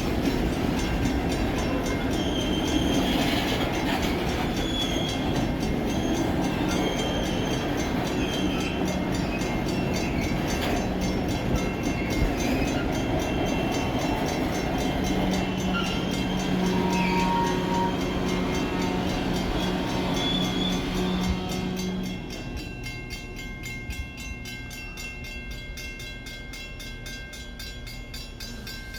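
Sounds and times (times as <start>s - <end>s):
freight train rumbling on track: 0.0s - 28.9s.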